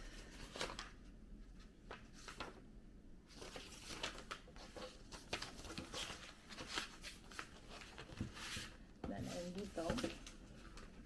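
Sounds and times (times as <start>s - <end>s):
paper rustling: 0.0s - 2.6s, 3.3s - 11.0s.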